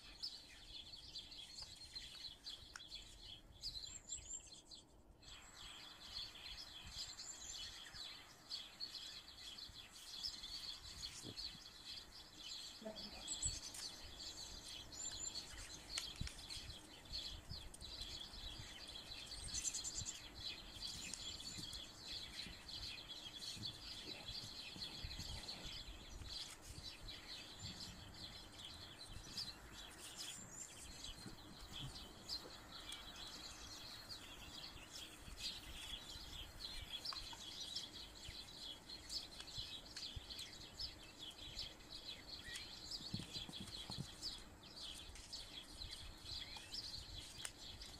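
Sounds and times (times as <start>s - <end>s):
faint birds chirping: 0.0s - 47.9s.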